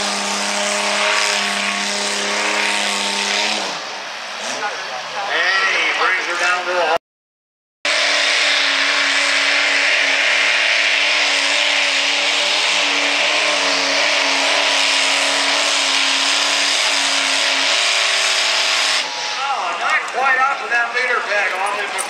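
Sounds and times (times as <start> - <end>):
tractor engine at high revs: 0.0 - 5.2, 7.9 - 20.8
dirt and track noise: 0.0 - 7.0, 7.9 - 22.0.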